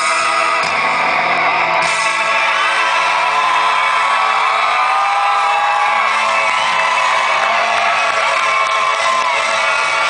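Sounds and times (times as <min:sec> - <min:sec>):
crowd cheering: 0:00.0 - 0:10.0
live rock band playing: 0:00.0 - 0:10.0.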